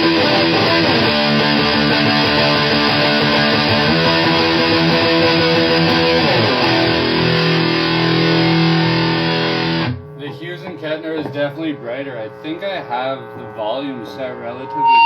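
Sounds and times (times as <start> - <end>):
distorted electric guitar riffs: 0.0 - 15.0.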